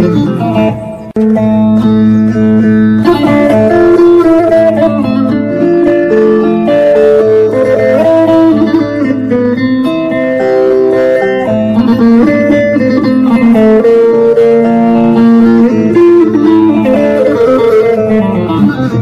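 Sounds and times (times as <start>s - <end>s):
plucked long-necked lute melody: 0.0s - 19.0s.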